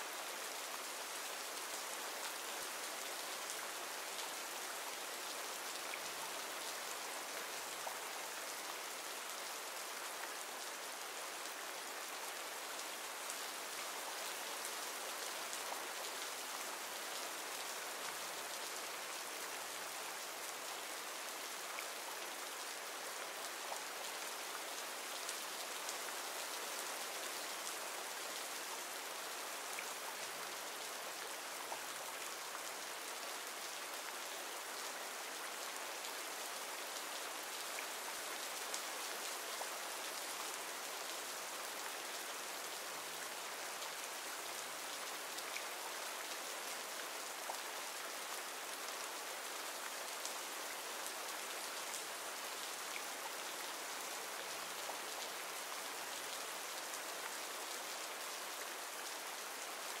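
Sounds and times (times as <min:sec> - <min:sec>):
rain falling: 0:00.0 - 1:00.0.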